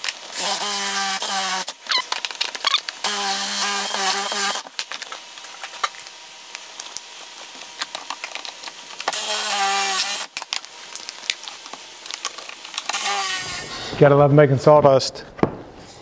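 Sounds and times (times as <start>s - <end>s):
cordless drill boring wood: 0.0s - 10.6s, 11.6s - 13.9s.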